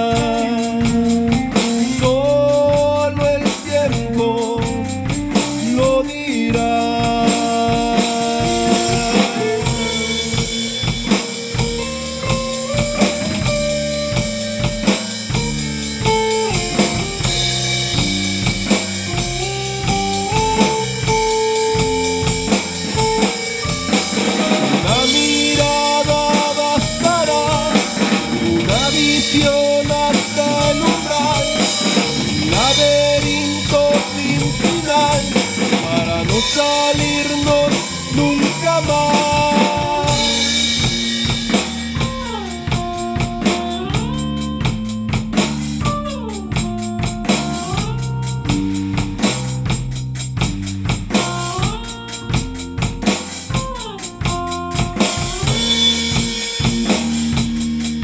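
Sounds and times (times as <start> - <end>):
drum kit with rimshots: 0.0 - 58.0
electric guitar lines: 0.0 - 58.0.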